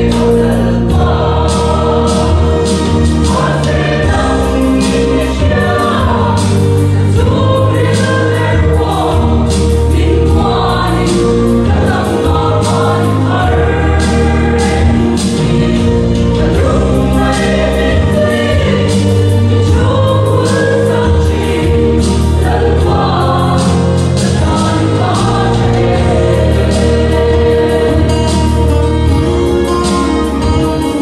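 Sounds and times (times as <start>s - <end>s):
choir singing gospel harmony: 0.0s - 31.0s
deep bass notes: 0.0s - 31.0s
instrumental accompaniment: 0.0s - 31.0s.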